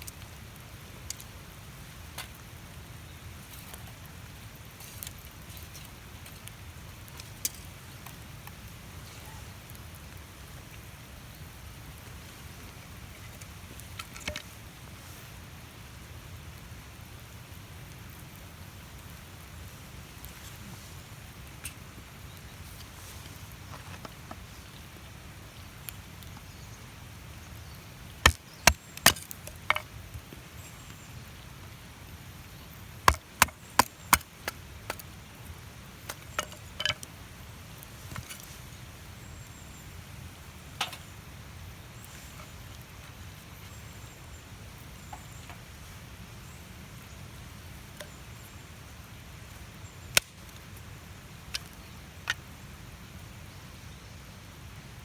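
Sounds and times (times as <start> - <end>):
low background noise: 0.0 - 55.0.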